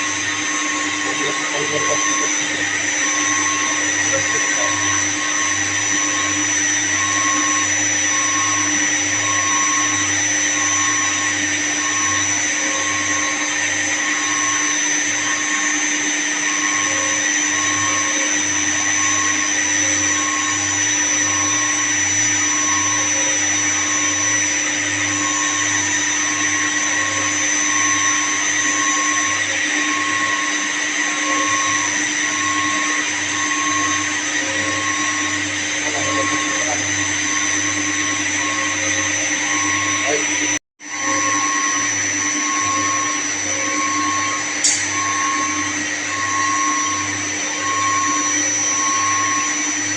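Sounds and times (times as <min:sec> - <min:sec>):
electric machinery whining: 0:00.0 - 0:49.9.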